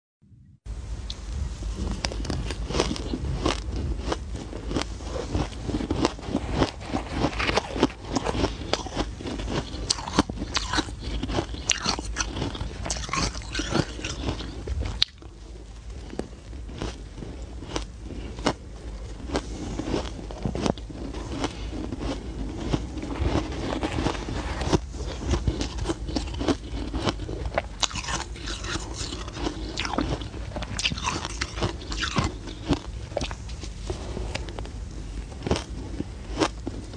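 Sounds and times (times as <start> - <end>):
person chewing ice: 1.9 - 36.9.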